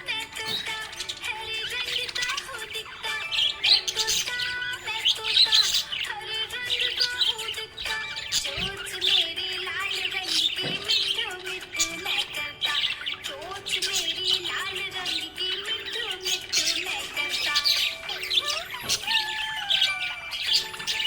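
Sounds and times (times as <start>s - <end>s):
background music: 0.0s - 21.0s
budgerigar chirping: 0.2s - 21.0s.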